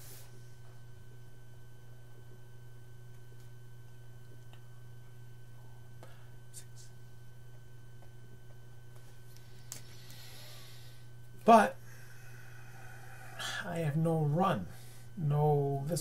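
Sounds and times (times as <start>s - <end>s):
faint high whine: 0.0s - 16.0s
steady low hum: 0.0s - 16.0s.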